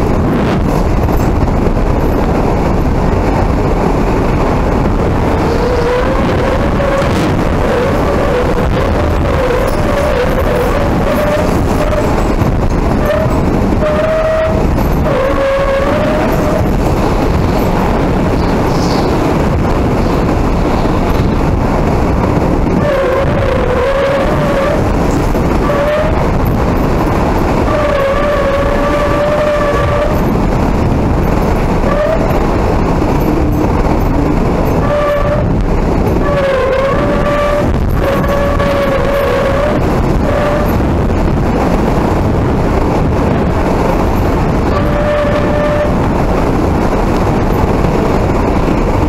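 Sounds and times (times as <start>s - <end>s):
strong wind whistling: 0.0s - 49.0s.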